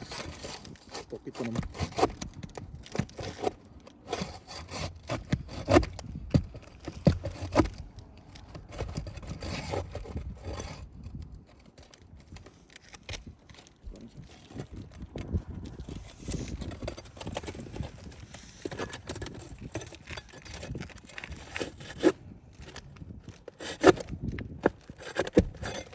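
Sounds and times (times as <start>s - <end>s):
sharp knocks and taps on shingles: 0.0s - 25.9s
shingles scraping: 0.0s - 25.9s.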